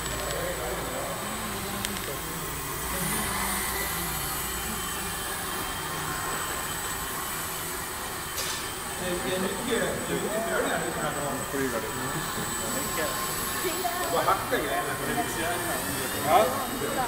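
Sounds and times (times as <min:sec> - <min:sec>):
model plane motors buzzing: 0:00.0 - 0:17.0.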